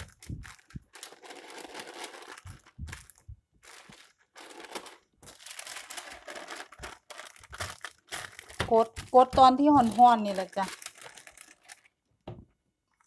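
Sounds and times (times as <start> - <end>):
paper crinkling and rustling: 0.0 - 12.0.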